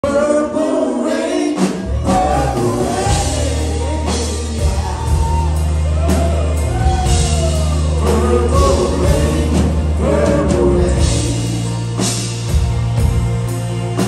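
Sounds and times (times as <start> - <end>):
person singing: 0.0 - 12.4
live band playing: 0.0 - 14.0
deep bass line: 1.8 - 14.0.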